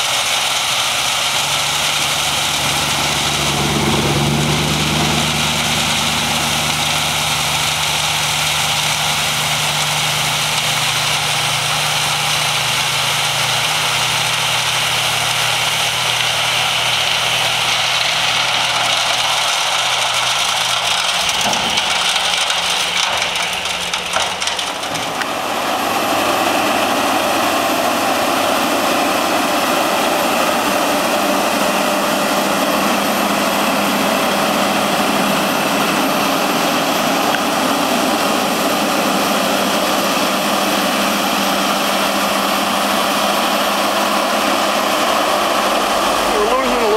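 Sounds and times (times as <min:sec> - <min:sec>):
gravel pouring: 0:00.0 - 0:30.6, 0:32.4 - 0:46.9
diesel dump truck engine: 0:00.0 - 0:46.9
motor grader diesel engine: 0:00.0 - 0:46.9.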